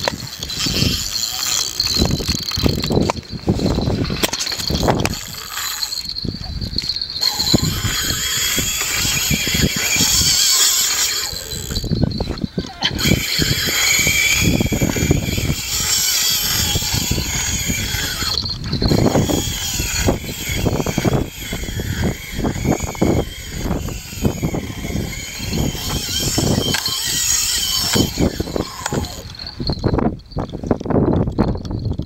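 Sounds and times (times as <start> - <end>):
fishing reel drag buzzing: 0.0 - 30.1
wind gusts on microphone: 0.0 - 32.0.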